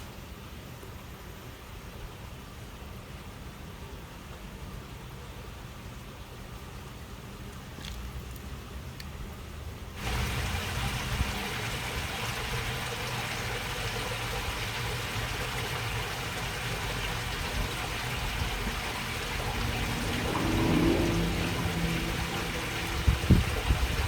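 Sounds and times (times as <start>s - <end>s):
water rushing along a channel: 0.0s - 24.0s.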